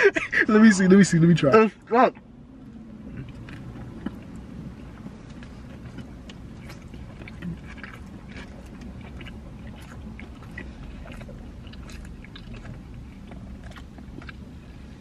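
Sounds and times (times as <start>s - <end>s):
low steady hum: 0.0s - 15.0s
people chewing: 2.2s - 15.0s.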